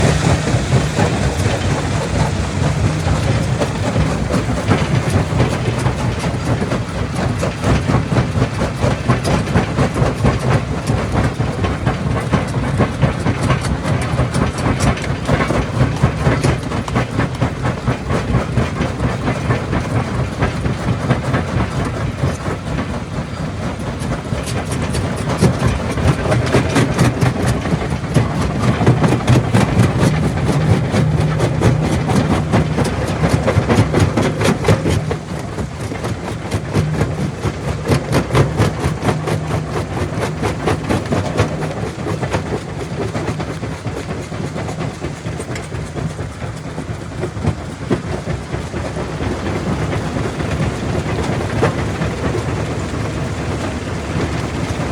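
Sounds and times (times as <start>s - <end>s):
low machine hum: 0.0s - 54.9s.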